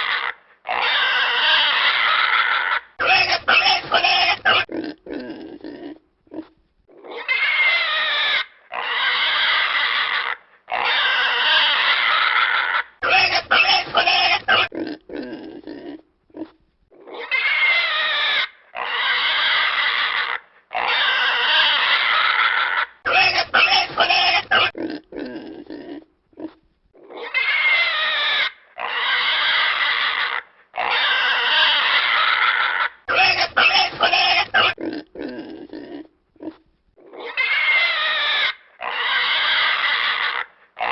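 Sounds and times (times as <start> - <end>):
pig grunting: 0.0 - 40.9
pig squealing: 0.0 - 40.9.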